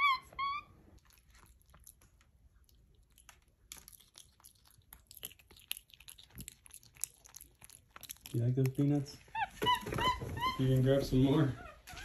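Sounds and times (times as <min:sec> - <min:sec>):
monkey chewing peanuts: 0:01.0 - 0:10.6.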